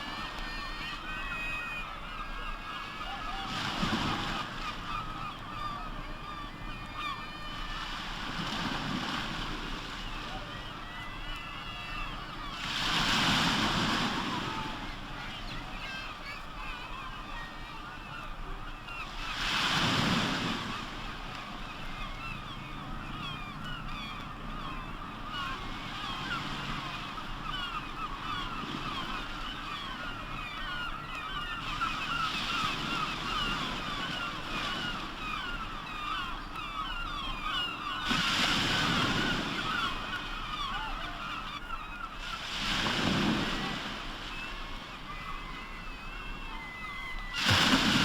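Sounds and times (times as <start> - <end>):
seabirds calling: 0.0 - 48.0
waves washing on shore: 0.0 - 48.0.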